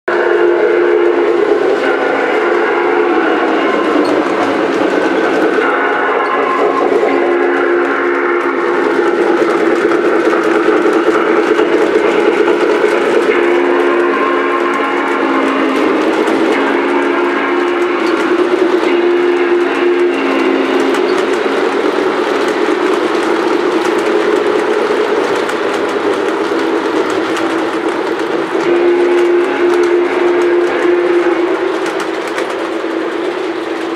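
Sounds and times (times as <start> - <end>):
two-tone steam whistle blasts: 0.1 - 24.2, 27.8 - 33.1
toy train wheels rumbling on track: 0.1 - 33.9.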